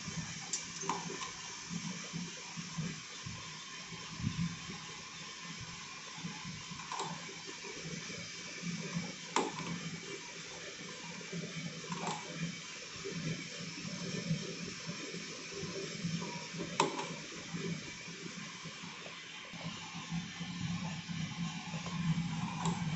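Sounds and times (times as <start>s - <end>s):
coffee roaster rushing noise: 0.0s - 22.9s.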